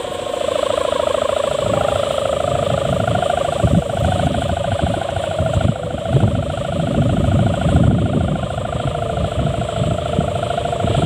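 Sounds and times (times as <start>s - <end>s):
kite hummer droning: 0.0s - 11.0s
gusty wind rumble: 1.4s - 11.0s.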